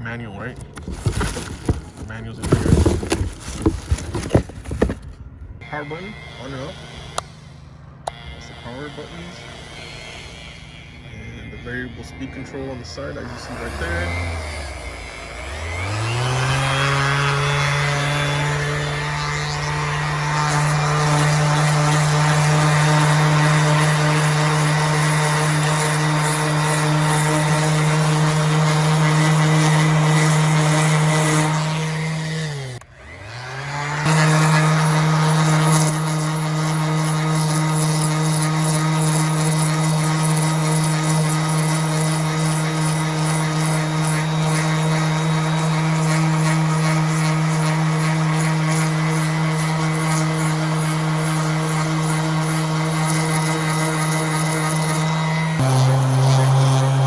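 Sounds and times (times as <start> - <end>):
palm sander motor humming: 0.6 - 57.0.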